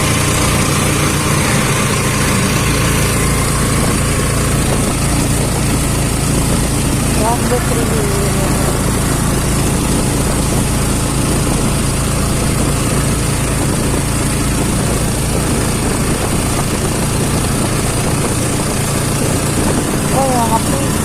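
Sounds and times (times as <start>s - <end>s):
road and wind noise: 0.0s - 21.0s
vehicle engine running: 0.0s - 21.0s.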